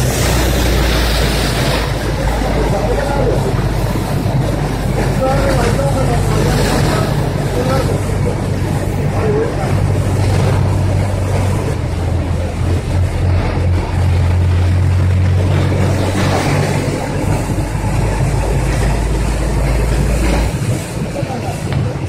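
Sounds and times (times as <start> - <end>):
road and wind noise: 0.0 - 22.0
vehicle engine hum: 0.0 - 22.0.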